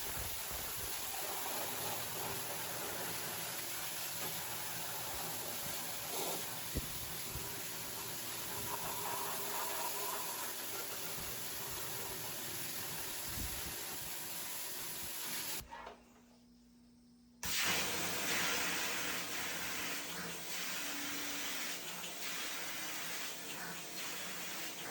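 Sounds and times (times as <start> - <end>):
hissing water spray: 0.0 - 15.6, 17.4 - 24.9.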